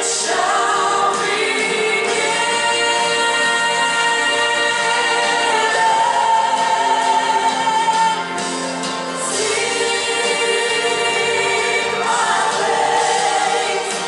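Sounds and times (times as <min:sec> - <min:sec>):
group singing worship song: 0:00.0 - 0:14.0.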